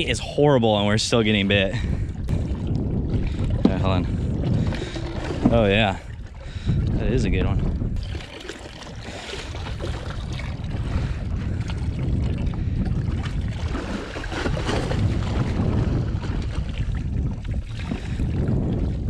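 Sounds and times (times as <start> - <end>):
water sloshing against hull: 0.0 - 19.0
wind buffeting microphone: 0.0 - 19.0.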